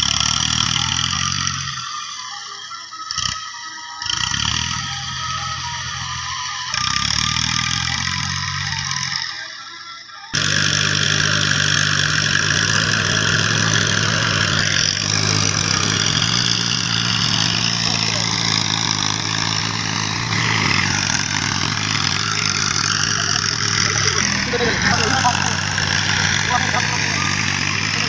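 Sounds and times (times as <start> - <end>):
tractor diesel engine running: 0.0 - 3.4, 4.0 - 9.6, 10.3 - 28.0.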